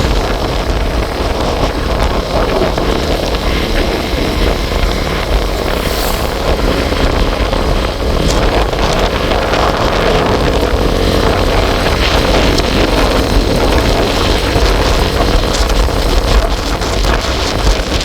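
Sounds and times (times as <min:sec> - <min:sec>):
vehicle running: 0:00.0 - 0:18.0
wind rushing across microphone: 0:00.0 - 0:18.0.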